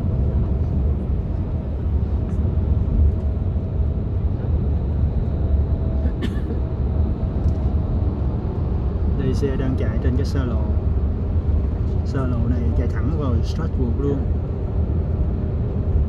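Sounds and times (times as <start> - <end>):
engine and tyre noise: 0.0 - 16.0.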